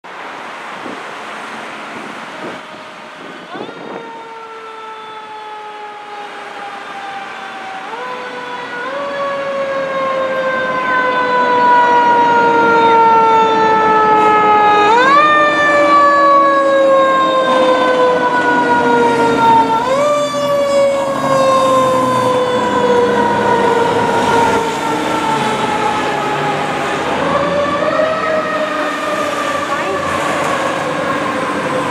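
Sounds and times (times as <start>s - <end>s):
mechanical fire engine siren: 2.2s - 31.9s.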